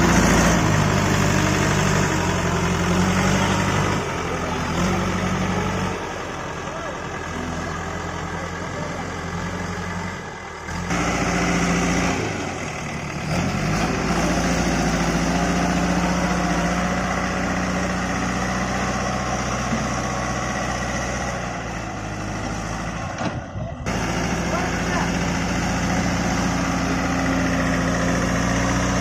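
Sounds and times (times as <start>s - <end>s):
diesel engine revving: 0.0s - 29.0s.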